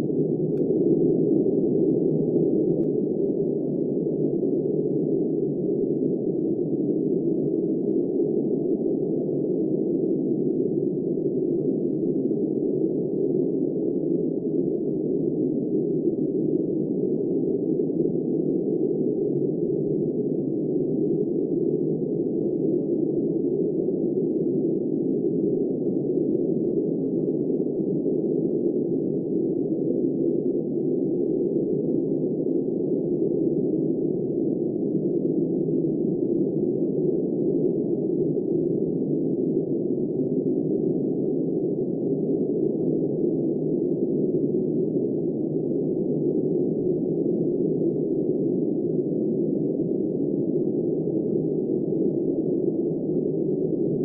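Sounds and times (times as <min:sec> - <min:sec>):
low muffled wind: 0:00.0 - 0:54.0.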